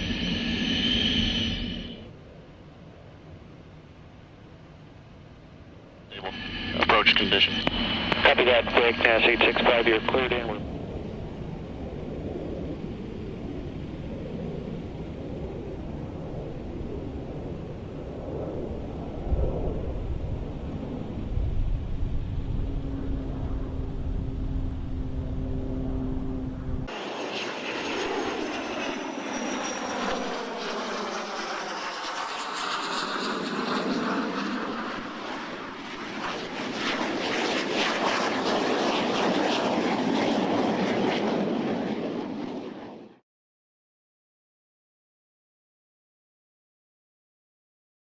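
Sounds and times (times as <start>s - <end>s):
jet engine rumble: 0.0s - 43.2s.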